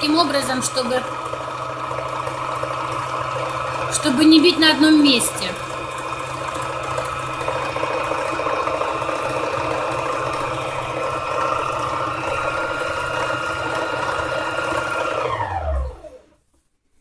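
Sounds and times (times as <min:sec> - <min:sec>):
needle-felting machine running: 0:00.0 - 0:16.1.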